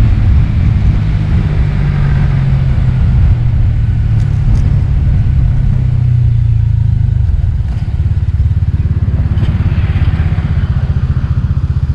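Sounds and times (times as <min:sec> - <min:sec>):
scooter engine running: 0:00.0 - 0:11.9.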